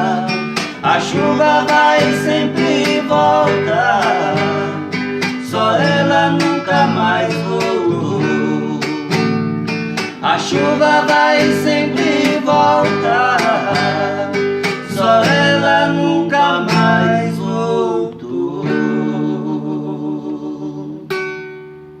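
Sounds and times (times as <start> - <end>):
man singing: 0.0 - 9.4, 10.0 - 21.2
strummed acoustic guitar: 0.0 - 22.0.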